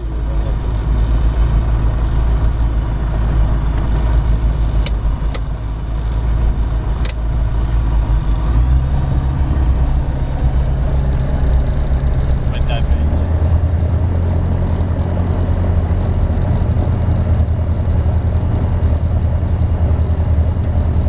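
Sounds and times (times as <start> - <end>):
aircraft engine idling: 0.0 - 21.0.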